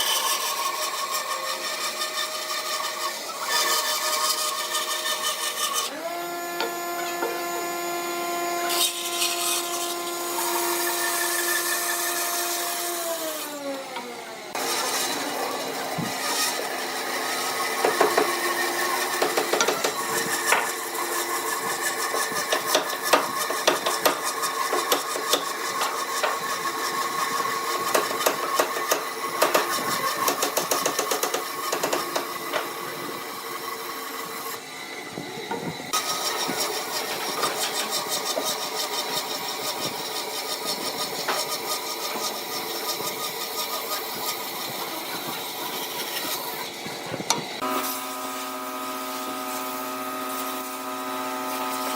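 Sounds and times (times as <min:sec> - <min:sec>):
turning tool scraping wood: 0:00.0 - 0:07.7, 0:08.6 - 0:34.6, 0:35.4 - 0:48.0
wood lathe motor running: 0:00.0 - 0:51.9.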